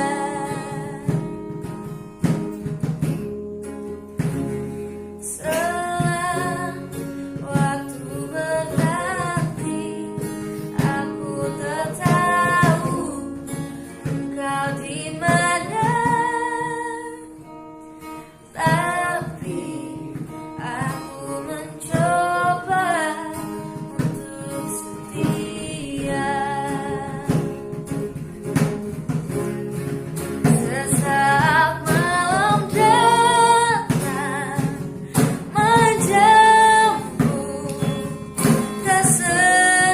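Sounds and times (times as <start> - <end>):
woman singing: 0.0 - 2.4, 4.2 - 28.7, 30.1 - 39.9
guitar accompaniment: 0.0 - 39.9.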